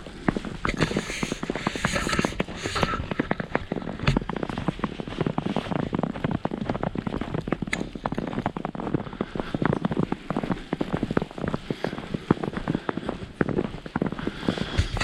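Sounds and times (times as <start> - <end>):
snow crackling: 0.0 - 15.0.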